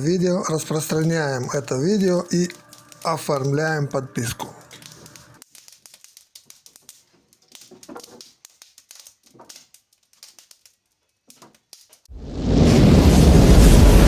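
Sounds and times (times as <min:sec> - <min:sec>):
faint irregular clicking: 0:00.7 - 0:12.1.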